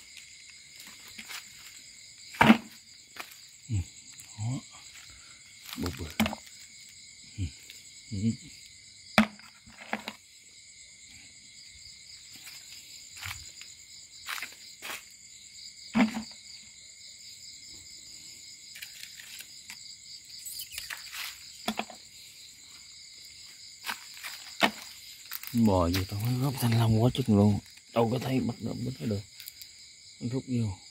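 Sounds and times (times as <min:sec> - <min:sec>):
crickets chirring: 0:00.0 - 0:30.9.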